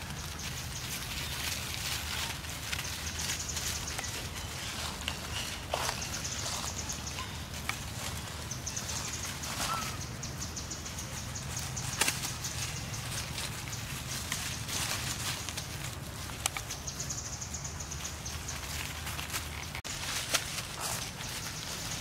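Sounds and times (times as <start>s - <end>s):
dry leaves crackling: 0.0s - 22.0s.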